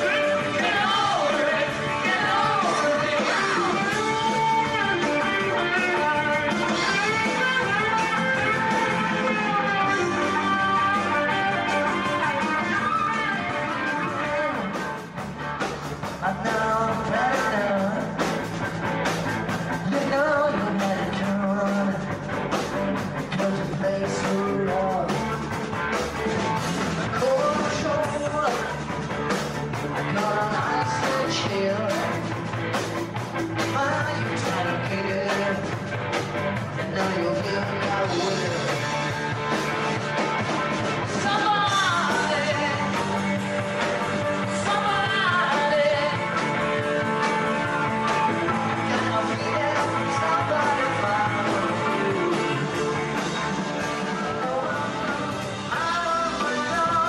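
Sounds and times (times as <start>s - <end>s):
person singing lead vocals: 0.0s - 15.2s, 16.0s - 18.8s, 19.4s - 25.9s, 26.5s - 57.0s
drum kit: 0.0s - 57.0s
electric guitars: 0.0s - 57.0s.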